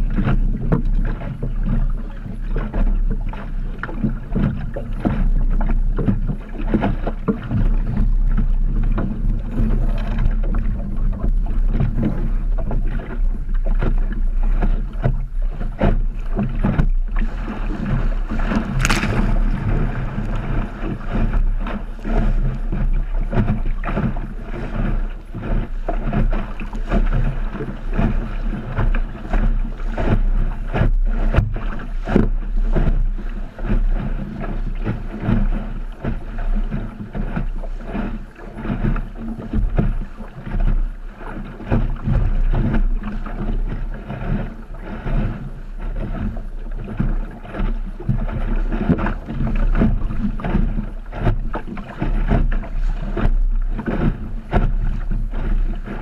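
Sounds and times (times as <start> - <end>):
water rushing past hull: 0.0 - 56.0
waves slapping against hull: 0.0 - 56.0
wind rumbling on microphone: 0.0 - 56.0.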